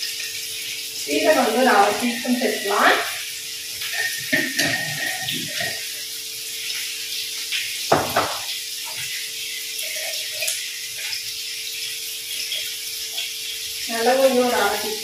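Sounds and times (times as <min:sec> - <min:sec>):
onions frying in oil: 0:00.0 - 0:15.0.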